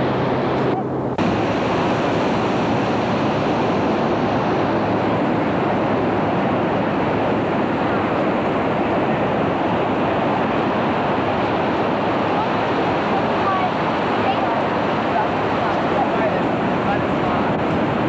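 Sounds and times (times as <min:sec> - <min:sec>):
surf breaking on beach: 0:00.0 - 0:18.0
wind on microphone: 0:00.0 - 0:18.0.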